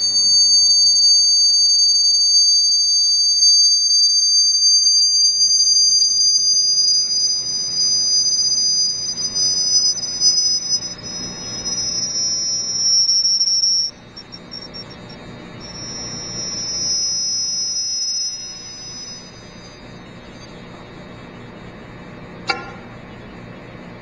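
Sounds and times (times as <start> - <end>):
high-pitched electronic tones: 0.0 - 21.4.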